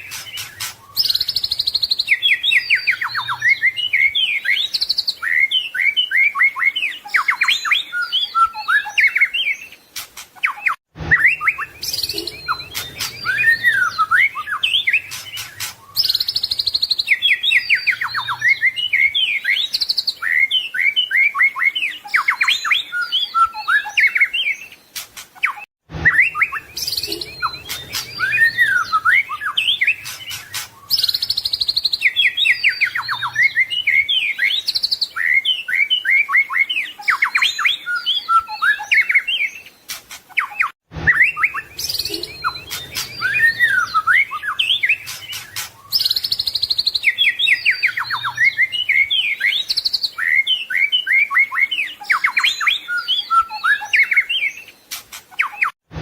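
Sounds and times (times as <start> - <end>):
bird singing whistles and trills: 0.0 - 55.8.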